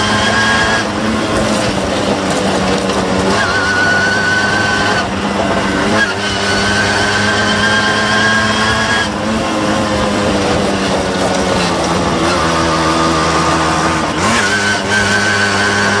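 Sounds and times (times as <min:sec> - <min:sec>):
moped engine running: 0:00.0 - 0:16.0.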